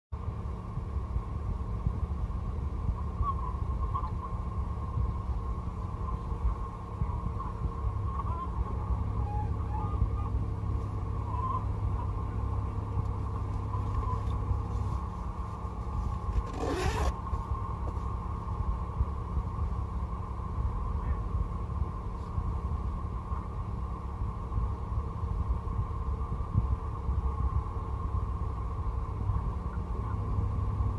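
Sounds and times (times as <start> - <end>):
car road and engine rumble: 0.1 - 30.9
faint steady whine: 0.2 - 30.9.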